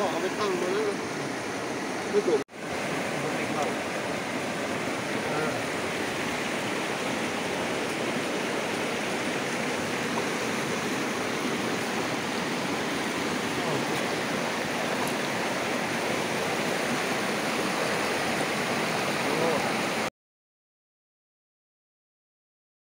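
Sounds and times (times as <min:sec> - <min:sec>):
stream rushing over rocks: 0:00.0 - 0:20.1.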